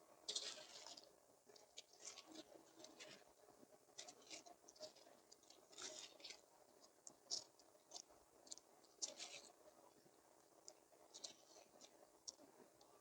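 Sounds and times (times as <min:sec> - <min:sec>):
soft crackling and scratching: 0:00.0 - 0:13.0.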